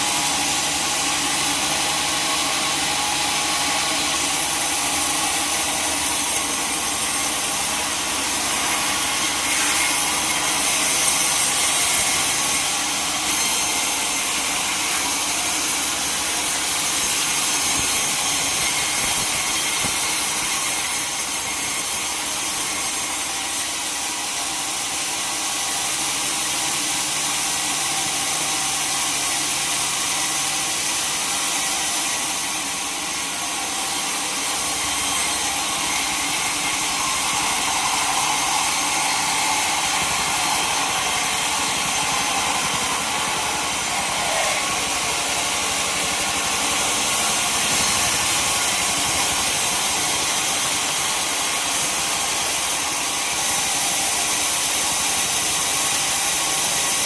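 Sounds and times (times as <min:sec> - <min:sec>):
saw cutting through wood: 0:00.0 - 0:57.0.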